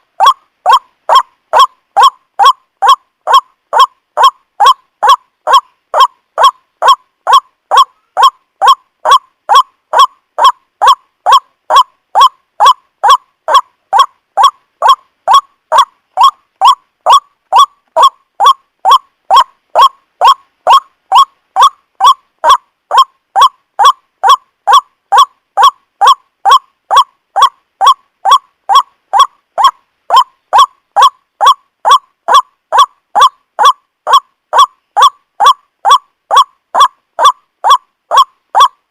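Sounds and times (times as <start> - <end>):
waterhen calling: 0.0 - 38.8.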